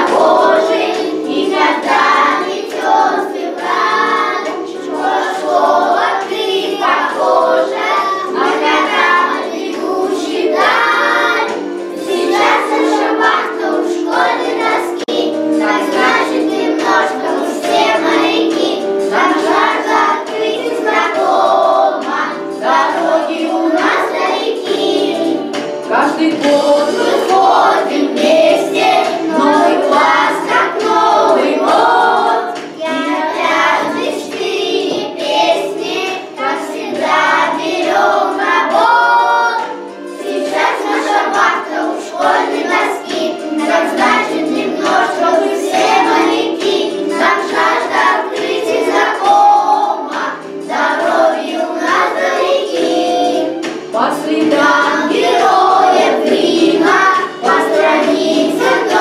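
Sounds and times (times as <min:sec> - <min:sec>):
children singing together: 0:00.0 - 0:59.0
instrumental backing track: 0:00.0 - 0:59.0.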